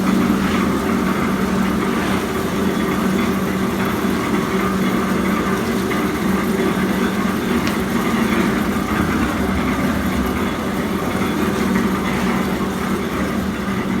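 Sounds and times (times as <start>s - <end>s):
machine motor humming: 0.0s - 14.0s.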